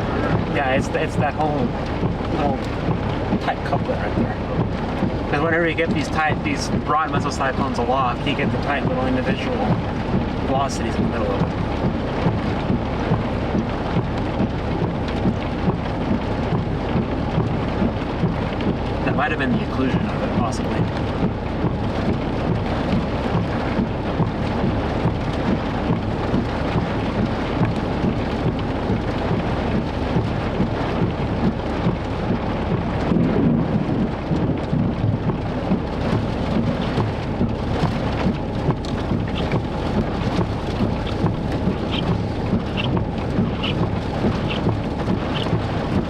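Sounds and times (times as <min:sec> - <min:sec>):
heavy rain on car roof: 0:00.0 - 0:46.0.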